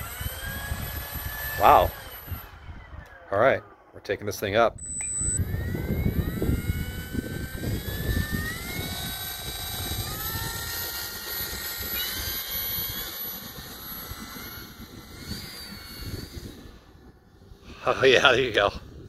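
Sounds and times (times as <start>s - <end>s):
wind rumbling on microphone: 0.0s - 3.6s, 4.5s - 19.0s
electric motor and propeller whining: 0.0s - 19.0s.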